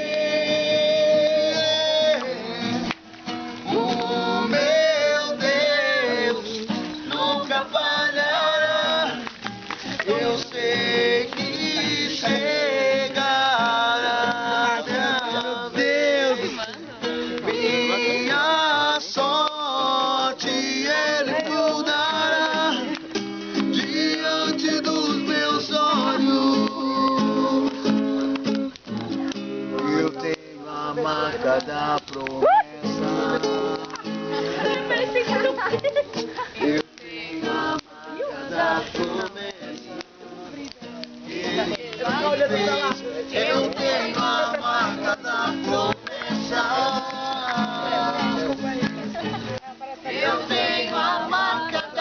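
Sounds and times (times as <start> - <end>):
group singing worship song: 0.0 - 28.4, 29.8 - 52.0
acoustic guitar strumming: 0.0 - 52.0.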